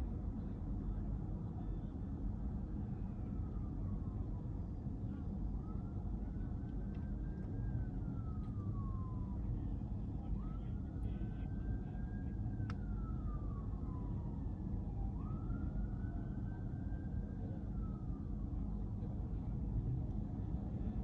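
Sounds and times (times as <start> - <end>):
car road and engine rumble: 0.0 - 21.0
emergency vehicle siren wailing: 2.7 - 21.0.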